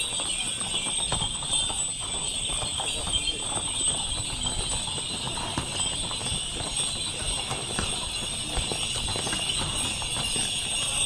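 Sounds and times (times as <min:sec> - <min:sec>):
hooves clip-clopping on asphalt: 0:00.0 - 0:11.0.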